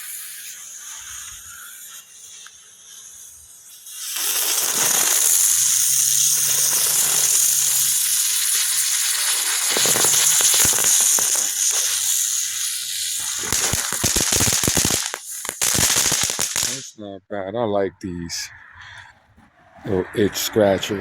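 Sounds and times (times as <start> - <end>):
spinning firework hissing: 0.0 - 16.9
firework crackles: 0.0 - 17.0.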